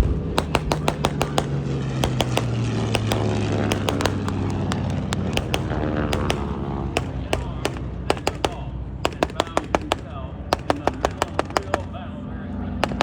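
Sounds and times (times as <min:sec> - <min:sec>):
sharp crackling clicks: 0:00.0 - 0:11.9
jet aircraft passing by: 0:00.0 - 0:13.0.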